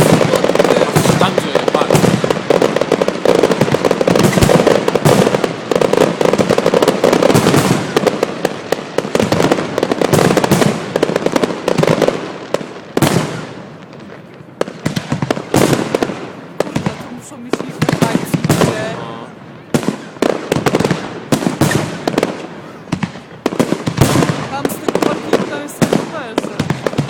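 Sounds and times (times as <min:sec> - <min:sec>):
loud firework bang: 0:00.0 - 0:12.2, 0:13.0 - 0:27.0
fireworks crackling and banging: 0:00.0 - 0:27.0.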